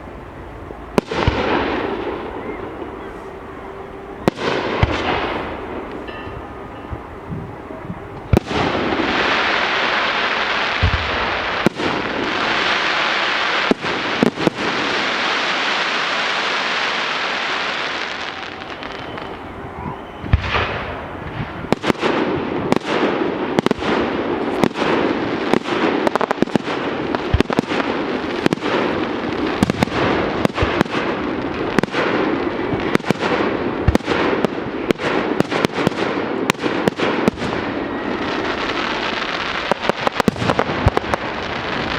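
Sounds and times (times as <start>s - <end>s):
fireworks bangs: 0.0s - 41.9s
fireworks crackling and popping: 0.0s - 41.9s
fireworks hissing: 0.0s - 41.9s.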